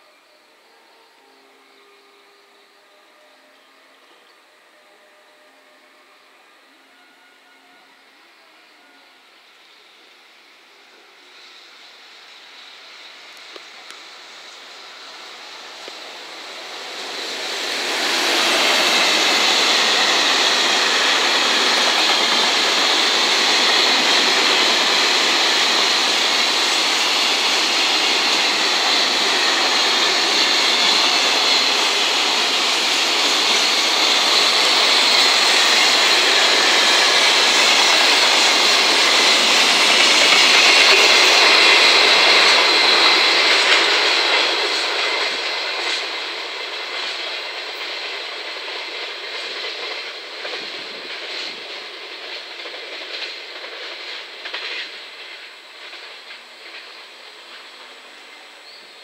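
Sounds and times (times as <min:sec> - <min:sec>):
steel wheels rushing on rail: 0:00.0 - 0:59.0.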